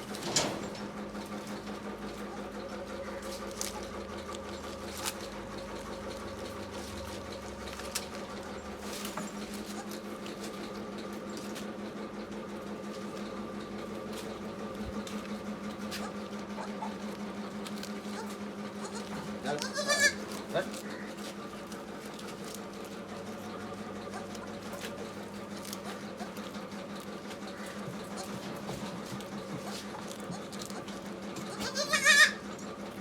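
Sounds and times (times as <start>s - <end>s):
machine hum with flutter: 0.0s - 33.0s.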